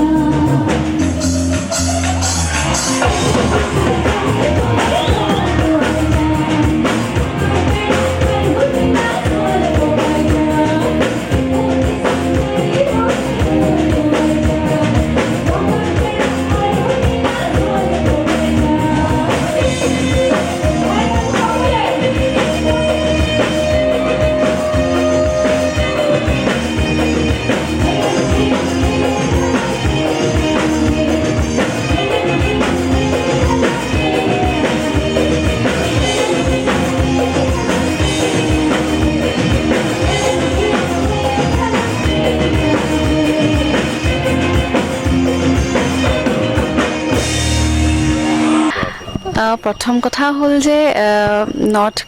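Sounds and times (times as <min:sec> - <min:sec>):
person singing: 0:00.0 - 0:44.4
band with drum kit: 0:00.0 - 0:50.6.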